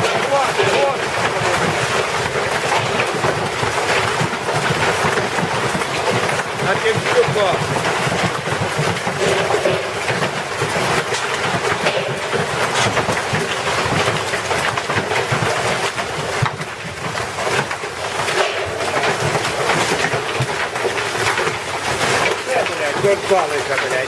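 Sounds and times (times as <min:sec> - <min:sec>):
clatter of small impacts: 0:00.0 - 0:24.0
continuous rushing hiss: 0:00.0 - 0:24.0.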